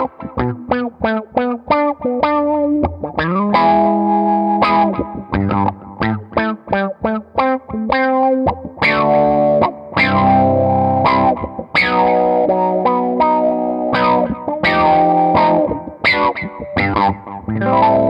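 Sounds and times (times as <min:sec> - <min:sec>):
electric guitar funk chords: 0:00.0 - 0:18.0.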